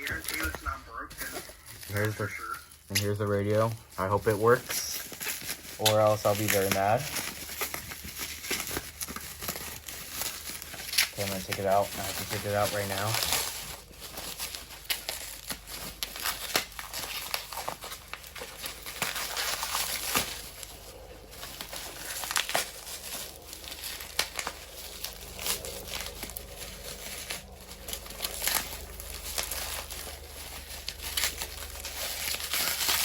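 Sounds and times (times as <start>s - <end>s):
bubble wrap crinkling: 0.0s - 33.0s.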